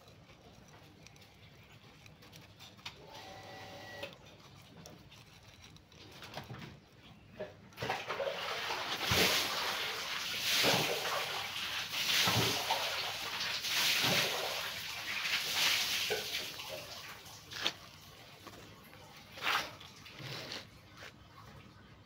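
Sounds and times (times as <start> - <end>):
potting soil trickling into pot: 0.0 - 22.0.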